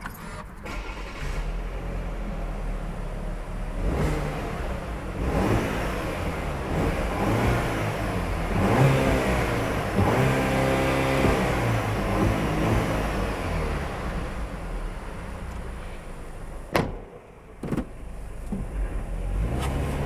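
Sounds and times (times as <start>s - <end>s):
car engine revving: 0.6s - 20.0s.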